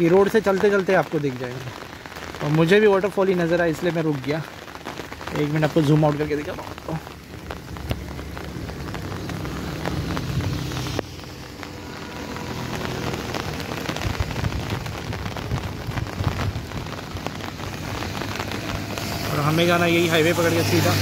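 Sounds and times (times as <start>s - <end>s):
low wind rumble: 0.0s - 21.0s
rain drops striking an umbrella: 0.0s - 21.0s.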